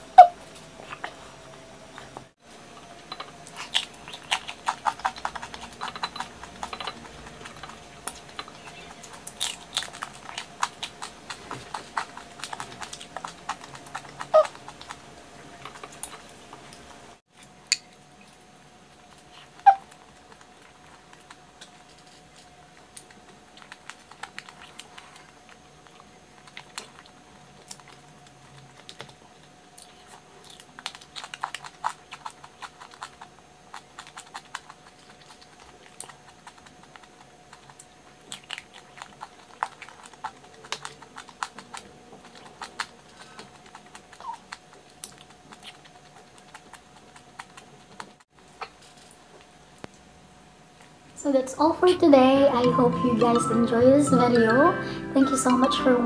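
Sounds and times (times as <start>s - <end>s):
chewing and crunching food: 1.9s - 50.1s.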